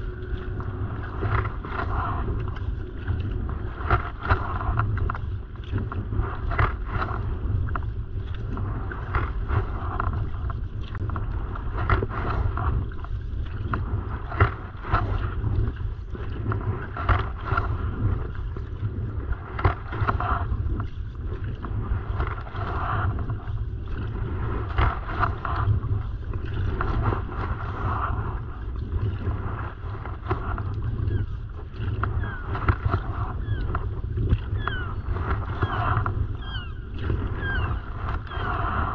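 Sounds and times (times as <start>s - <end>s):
water splashing against kayak: 0.0s - 38.9s
wind rumble on microphone: 0.0s - 38.9s.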